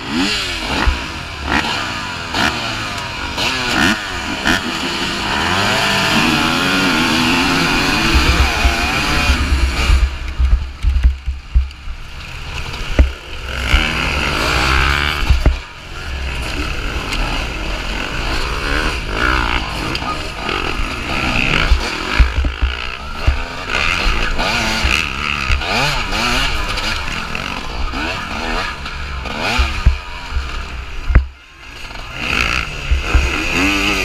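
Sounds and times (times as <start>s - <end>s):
motorcycle engine revving: 0.0s - 34.0s
other dirt bikes running: 0.0s - 34.0s.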